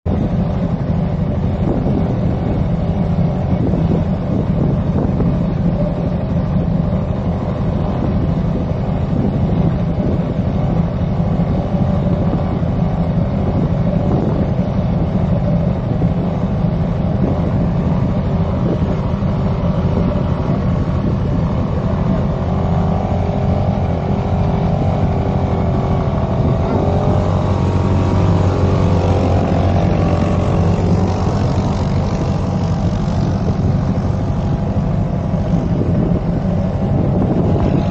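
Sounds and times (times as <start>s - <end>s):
vehicle engine revving: 0.1s - 37.9s.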